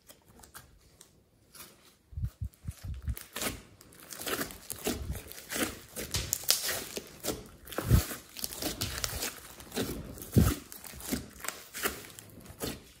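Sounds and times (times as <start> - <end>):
slime squishing and crackling: 2.5 - 13.0.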